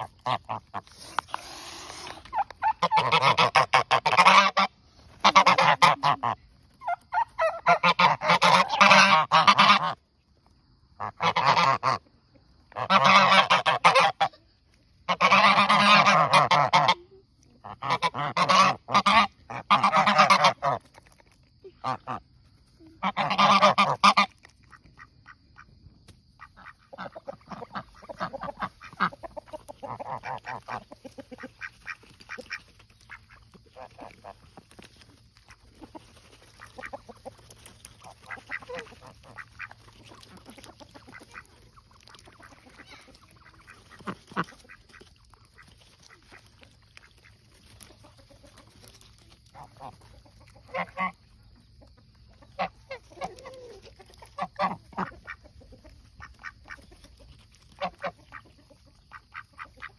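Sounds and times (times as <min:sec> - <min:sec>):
geese honking: 0:00.0 - 0:10.0, 0:11.0 - 0:12.0, 0:12.7 - 0:14.3, 0:15.0 - 0:17.0, 0:17.7 - 0:20.8, 0:23.0 - 0:24.4, 0:26.4 - 0:51.4, 0:52.4 - 0:59.9.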